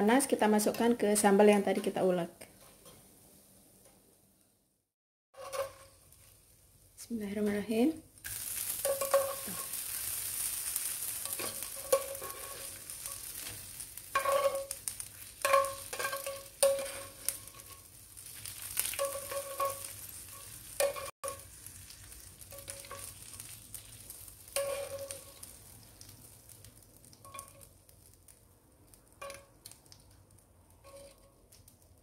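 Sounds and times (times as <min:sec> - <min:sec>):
hot oil sizzling: 0:05.3 - 0:32.0.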